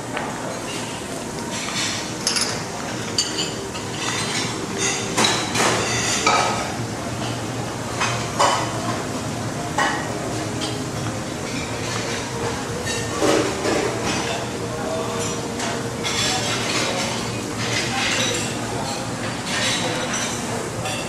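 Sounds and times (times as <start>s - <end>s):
plates and cutlery clinking: 0.5s - 21.0s.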